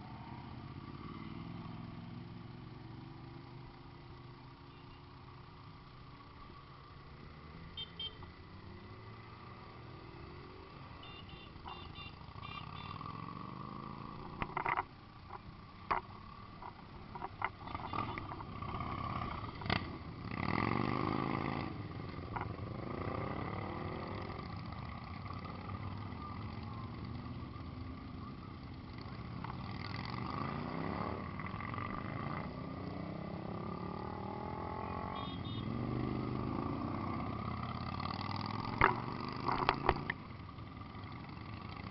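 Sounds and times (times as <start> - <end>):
motorcycle engines idling and revving: 0.0 - 41.9.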